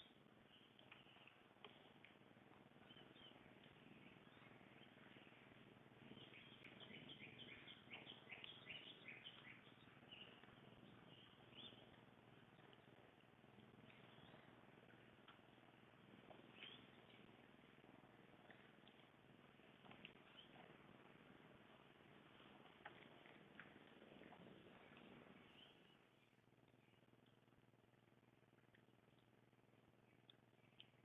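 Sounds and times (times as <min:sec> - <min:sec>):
faint birds chirping: 0:00.0 - 0:31.0
low background noise: 0:00.0 - 0:31.0.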